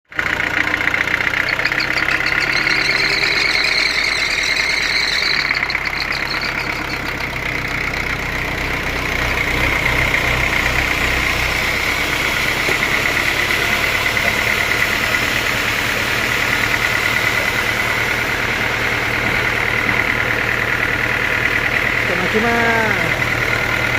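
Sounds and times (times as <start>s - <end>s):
sawmill machinery humming and whining: 0.2s - 23.9s.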